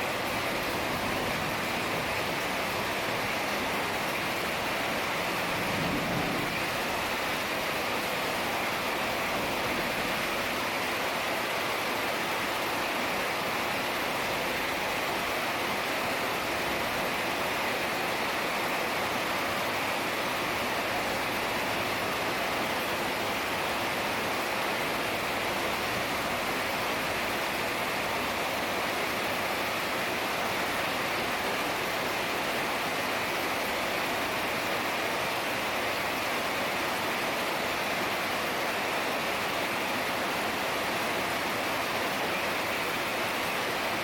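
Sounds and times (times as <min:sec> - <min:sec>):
heavy rain hiss: 0:00.0 - 0:44.0.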